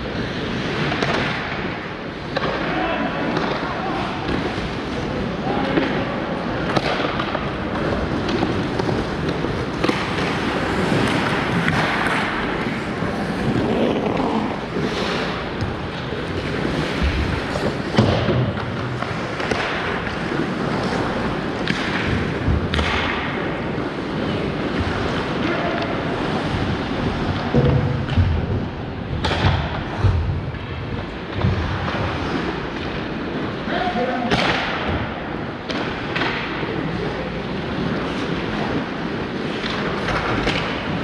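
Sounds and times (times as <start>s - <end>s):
skates scraping ice: 0.0s - 41.0s
stick and puck clacks: 0.1s - 41.0s.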